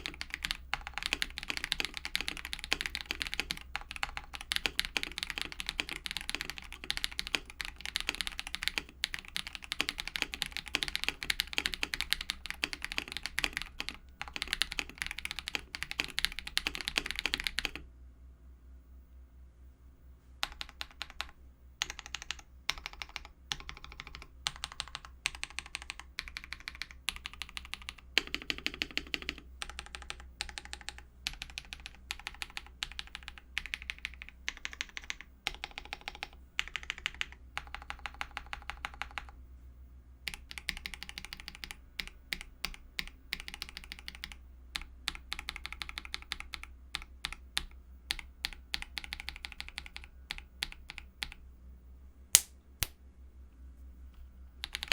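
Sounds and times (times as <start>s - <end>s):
typing on mechanical keyboard: 0.0s - 17.8s, 20.4s - 39.4s, 40.3s - 51.4s, 54.6s - 54.9s
steady low hum: 0.0s - 28.6s, 29.3s - 54.9s.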